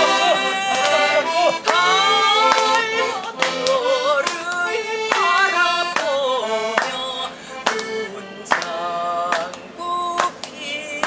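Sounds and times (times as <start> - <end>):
instrumental accompaniment: 0.0 - 10.5
hands clapping to beat: 0.0 - 10.6
person singing: 0.0 - 11.0.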